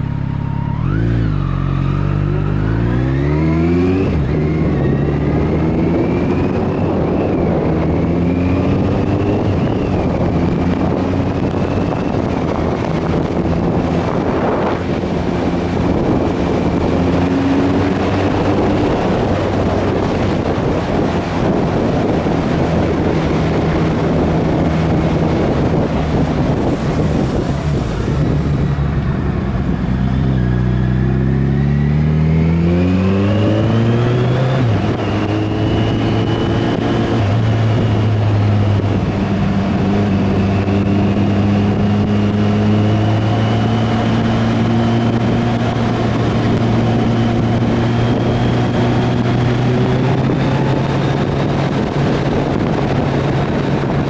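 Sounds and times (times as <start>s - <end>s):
motorcycle engine: 0.0s - 54.0s
wind rush: 0.8s - 54.0s.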